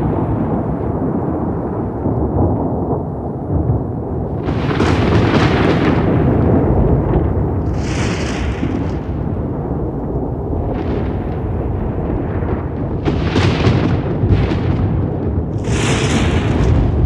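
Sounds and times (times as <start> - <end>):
crackling thunder claps: 0.0 - 17.0
thunder rumbling: 0.0 - 17.0.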